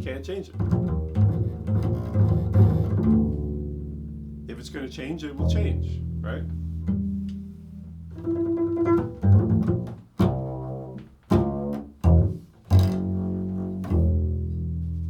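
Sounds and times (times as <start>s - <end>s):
double bass plucked pizzicato: 0.0s - 15.0s.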